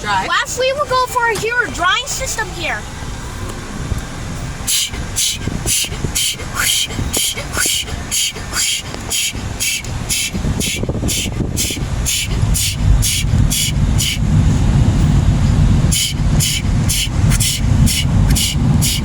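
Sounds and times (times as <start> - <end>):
car wash blowers rumbling: 0.0 - 19.0
rhythmic hissing pulse: 0.0 - 19.0.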